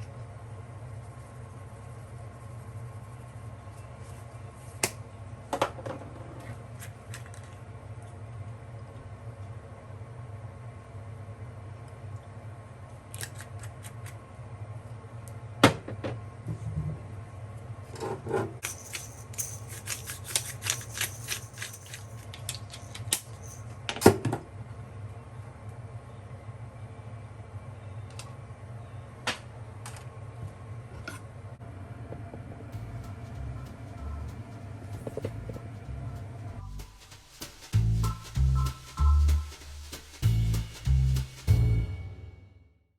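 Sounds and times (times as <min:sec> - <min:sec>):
steady low hum: 0:00.0 - 0:42.7.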